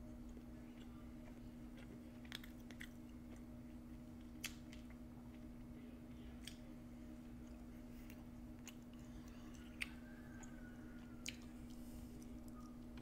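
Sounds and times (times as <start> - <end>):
person chewing: 0.0 - 5.5, 7.3 - 13.0
steady low hum: 0.0 - 13.0.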